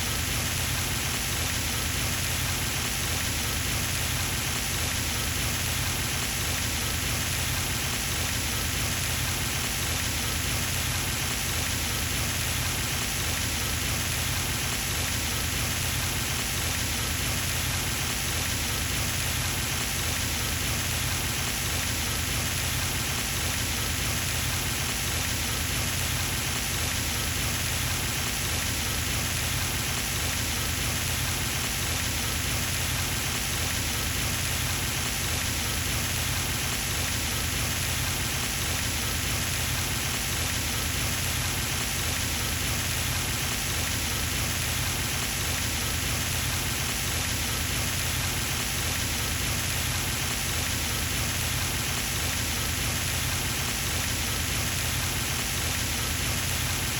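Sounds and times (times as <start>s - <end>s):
fountain water splashing on pond: 0.1s - 56.9s.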